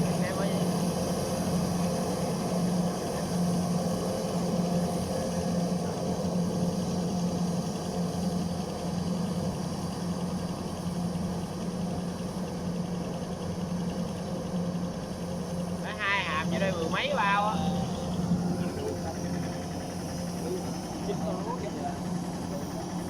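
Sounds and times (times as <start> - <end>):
combine harvester engine droning: 0.0 - 23.0.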